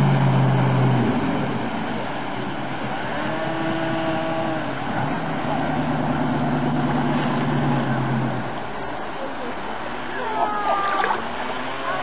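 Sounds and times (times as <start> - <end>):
engine running: 0.0 - 12.0
water noise: 0.0 - 12.0
wind: 0.0 - 12.0.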